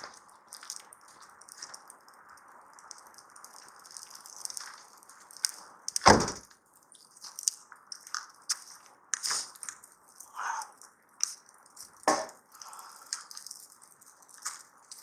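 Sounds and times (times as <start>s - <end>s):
dry wood crackling and snapping: 0.0s - 15.0s.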